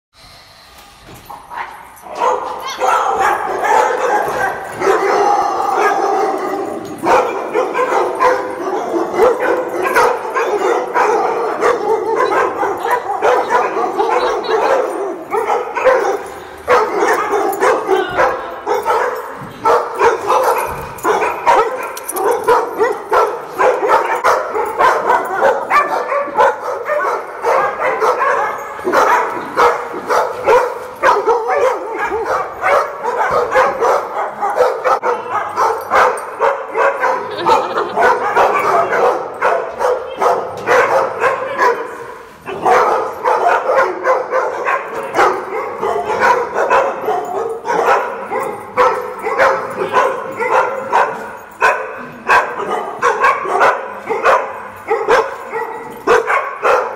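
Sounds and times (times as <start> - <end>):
many dogs barking and yipping: 1.4 - 56.9.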